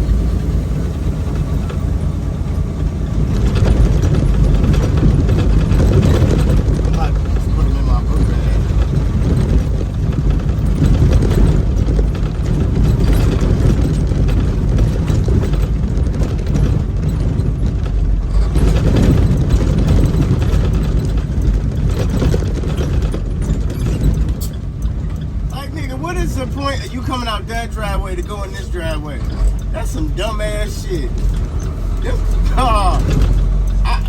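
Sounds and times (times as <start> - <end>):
road noise: 0.0 - 34.0
truck engine rumbling: 0.0 - 34.0.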